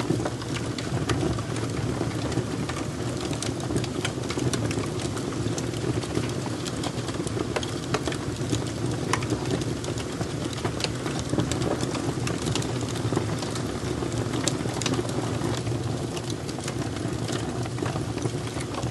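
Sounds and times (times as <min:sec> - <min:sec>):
fire crackling: 0:00.0 - 0:18.9
pops and snaps of fire: 0:00.0 - 0:18.9.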